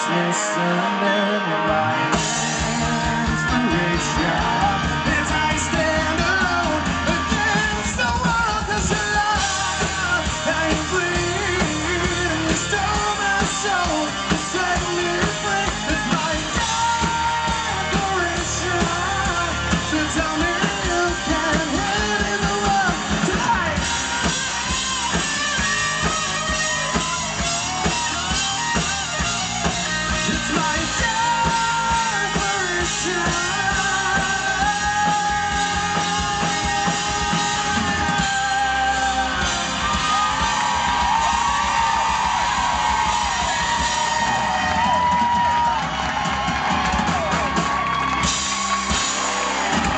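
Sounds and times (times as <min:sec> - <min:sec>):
man singing lead vocal: 0:00.0 - 0:45.8
guitar: 0:00.0 - 0:49.9
live rock band playing: 0:00.0 - 0:49.9.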